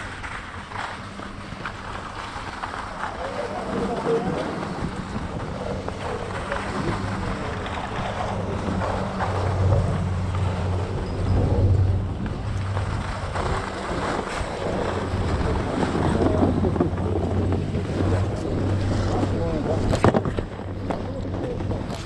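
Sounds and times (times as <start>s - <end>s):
low steady hum: 0.0s - 22.0s
skis scraping over snow: 0.0s - 22.0s
wind buffeting microphone: 0.0s - 22.0s.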